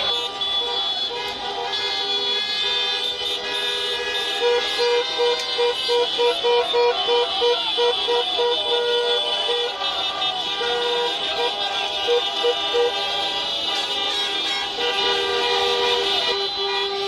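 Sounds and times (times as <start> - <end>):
car horns honking: 0.0 - 17.0
horn beeping rapidly: 0.0 - 17.0.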